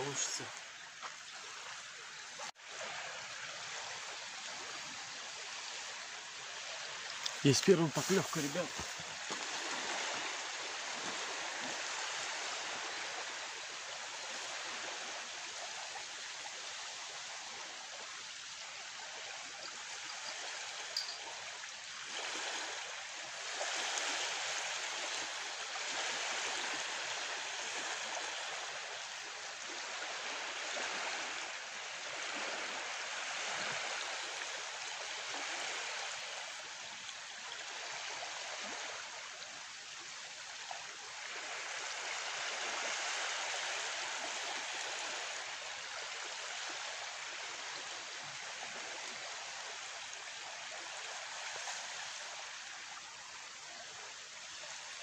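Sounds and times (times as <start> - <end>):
small waves lapping: 0.0 - 55.0.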